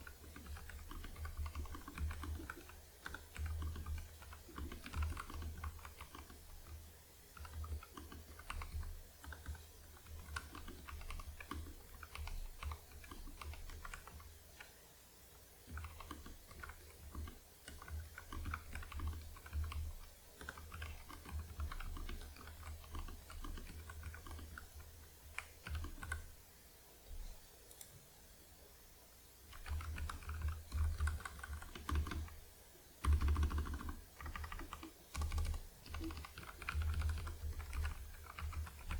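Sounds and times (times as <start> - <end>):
mechanical keyboard typing: 0.0 - 14.8, 15.6 - 26.3, 29.5 - 32.4, 33.0 - 38.9.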